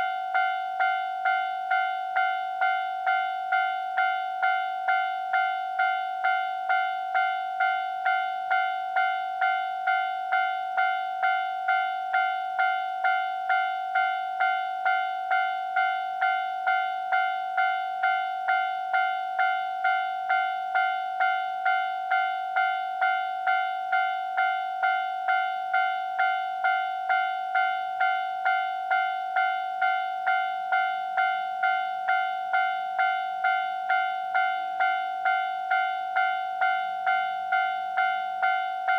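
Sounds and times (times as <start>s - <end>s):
level crossing alarm bell clanging: 0.0s - 38.9s.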